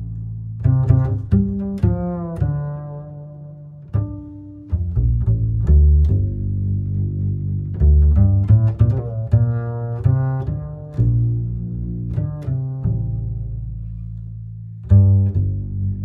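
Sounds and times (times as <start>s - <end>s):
low string music: 0.0s - 16.0s.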